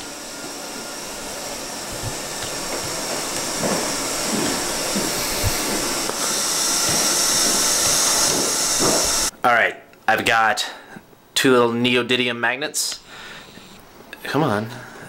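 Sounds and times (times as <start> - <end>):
steady hissing: 0.0 - 10.0, 12.8 - 15.0.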